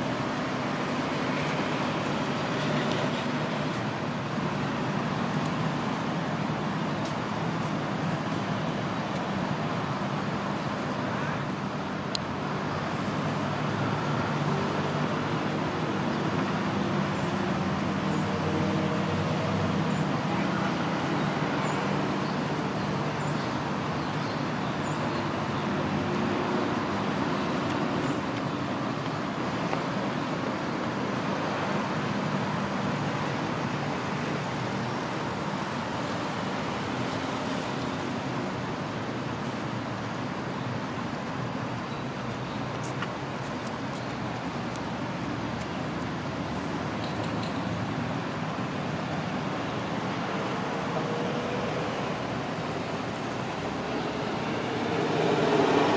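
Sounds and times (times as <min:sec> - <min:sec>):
road traffic hum: 0:00.0 - 0:55.9.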